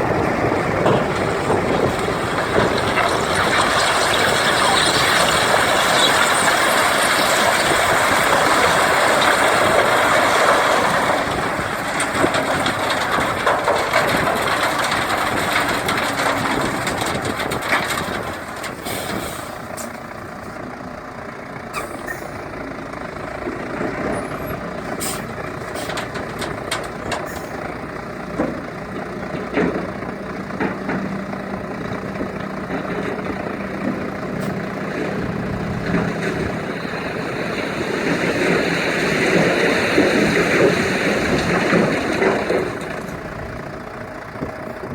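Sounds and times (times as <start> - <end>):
gravel rushing from dump truck: 0.0 - 44.9
truck engine running: 0.0 - 44.9
knocks and clanks: 0.2 - 20.0, 23.6 - 36.8, 39.3 - 44.7.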